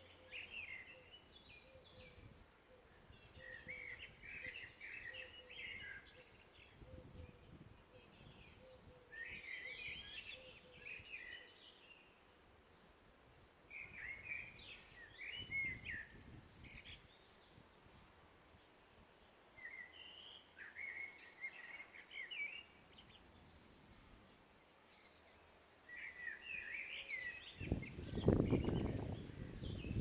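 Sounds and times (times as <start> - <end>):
songbirds chirping and trilling: 0.0 - 30.0.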